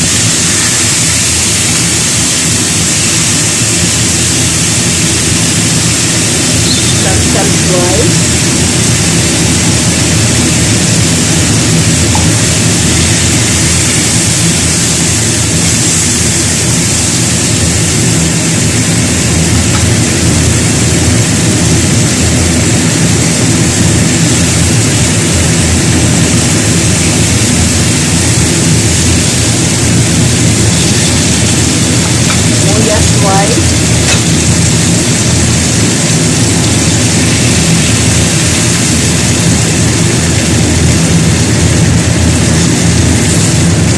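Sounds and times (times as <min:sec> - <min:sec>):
loud steady rushing noise: 0:01.7 - 0:24.8, 0:25.5 - 0:43.9.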